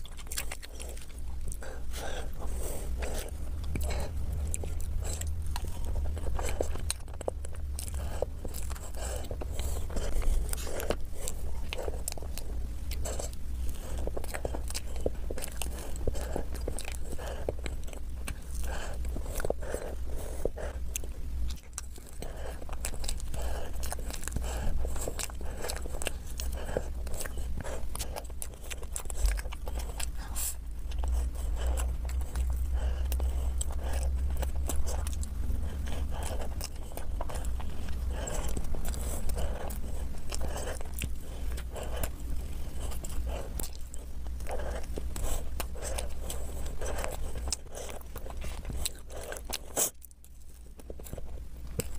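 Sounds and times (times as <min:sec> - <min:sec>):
chewing and wet mouth sounds: 0:00.0 - 0:51.9
steady low hum: 0:00.0 - 0:51.9.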